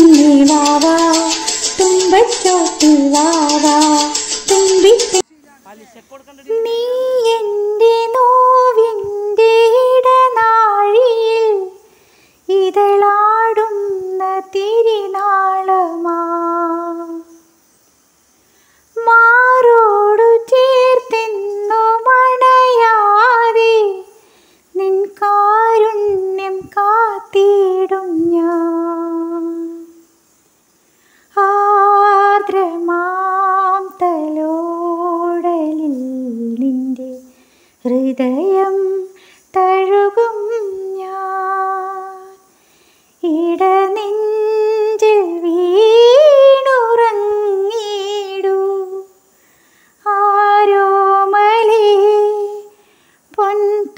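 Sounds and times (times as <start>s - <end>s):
woman singing unaccompanied: 0.0s - 17.6s, 18.9s - 30.3s, 31.2s - 49.3s, 50.0s - 53.9s.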